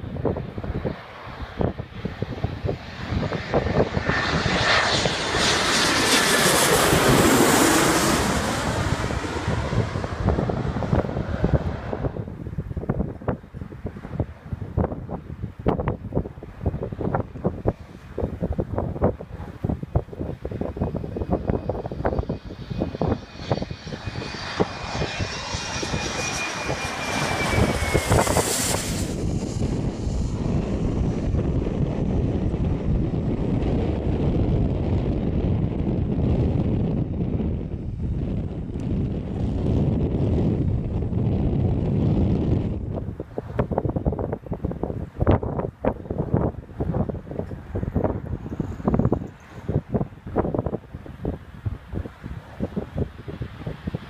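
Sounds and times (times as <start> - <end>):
jet airliner passing overhead: 0.0 - 54.0
wind buffeting microphone: 0.0 - 54.0.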